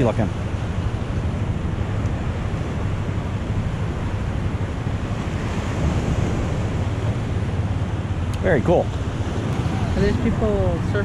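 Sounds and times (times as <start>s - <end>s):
surf breaking on shore: 0.0s - 11.0s
wind buffeting microphone: 0.0s - 11.0s.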